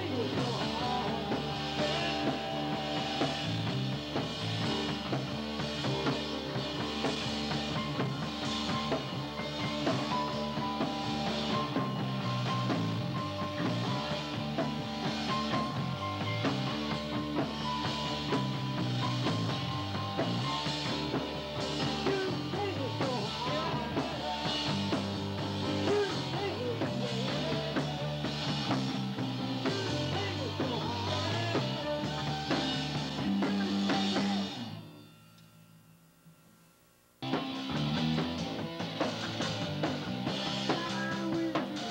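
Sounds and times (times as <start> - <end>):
bass line: 0.0 - 35.1, 37.2 - 41.9
rock band playing: 0.0 - 35.2, 37.2 - 41.9
drum kit with cymbal hits: 0.0 - 35.4, 37.2 - 41.9
guitar: 0.0 - 41.9.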